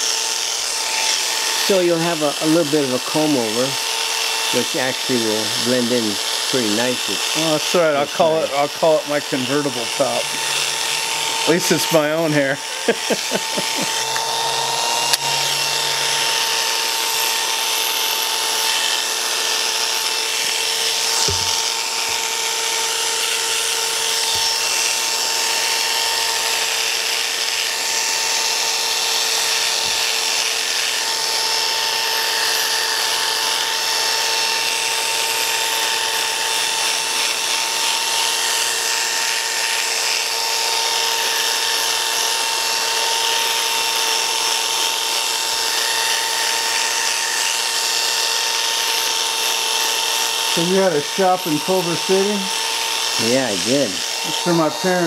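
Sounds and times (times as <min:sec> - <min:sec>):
electric hair clippers humming: 0:00.0 - 0:55.0.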